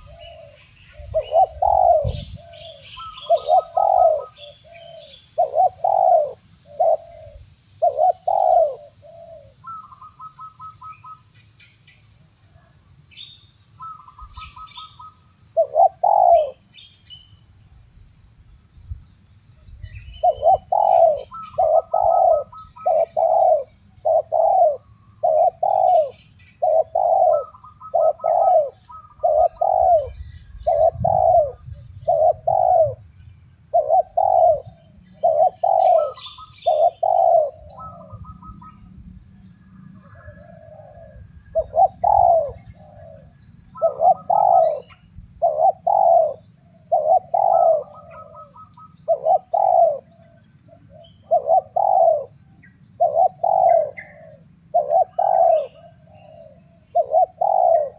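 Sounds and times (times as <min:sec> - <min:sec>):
doves cooing: 0:00.0 - 0:11.3, 0:13.8 - 0:16.7, 0:20.1 - 0:57.9.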